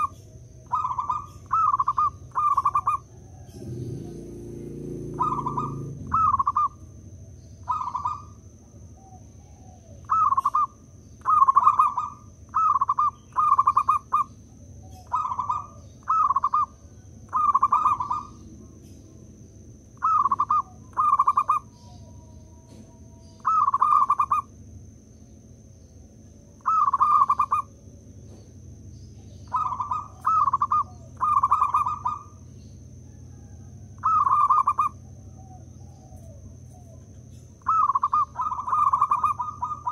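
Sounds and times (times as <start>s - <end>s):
dove cooing: 0.0s - 19.2s, 19.8s - 24.6s, 26.5s - 28.4s, 29.1s - 39.9s.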